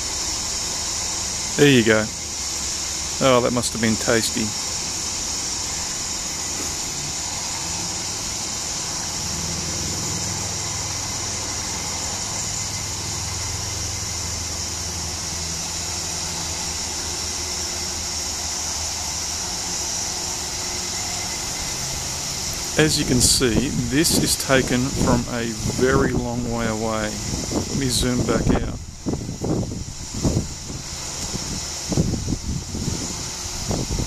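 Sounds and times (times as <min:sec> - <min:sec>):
cicadas buzzing: 0:00.0 - 0:34.0.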